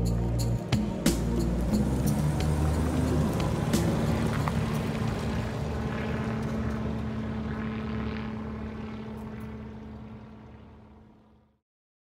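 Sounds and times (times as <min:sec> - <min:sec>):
car engine pulling away: 0:00.0 - 0:11.4.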